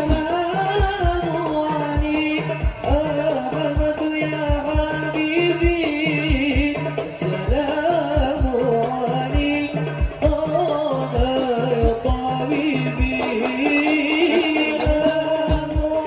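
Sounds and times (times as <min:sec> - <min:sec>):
frame drums beating: 0:00.0 - 0:16.0
man singing devotional song: 0:00.0 - 0:16.0.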